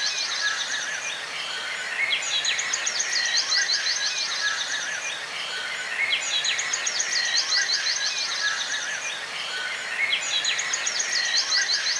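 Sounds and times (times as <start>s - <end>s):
bird song of rapid high chirps: 0.0s - 11.9s.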